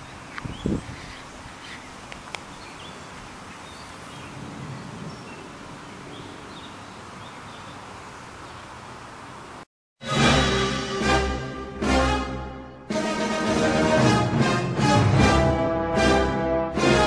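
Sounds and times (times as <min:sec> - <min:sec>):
outdoor ambience: 0:00.0 - 0:16.2.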